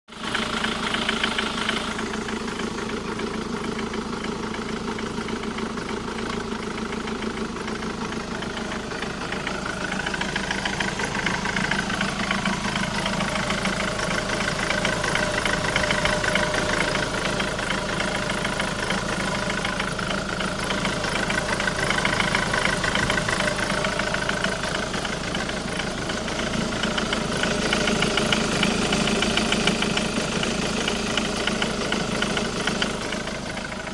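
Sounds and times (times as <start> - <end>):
diesel engine idling: 0.1 - 33.9
engine knocking and rattling: 0.1 - 33.9.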